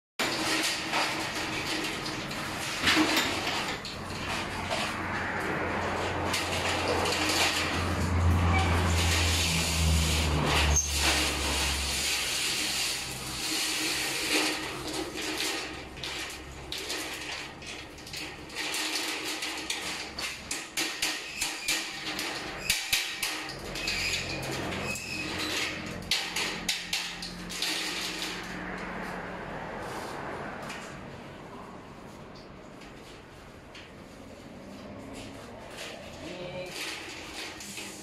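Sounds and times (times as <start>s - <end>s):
steel roll-up door rattling: 0.2s - 29.1s, 33.6s - 38.0s.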